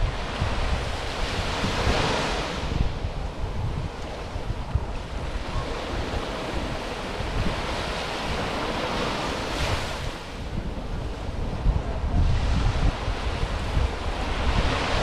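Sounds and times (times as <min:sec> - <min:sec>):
small waves washing on beach: 0:00.0 - 0:15.0
wind rumbling on microphone: 0:00.0 - 0:15.0.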